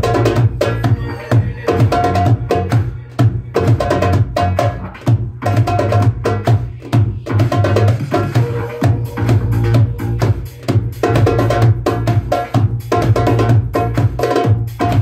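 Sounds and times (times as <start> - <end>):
backing music with heavy bass: 0.0 - 15.0
goblet drum fast strikes and rolls: 0.0 - 15.0.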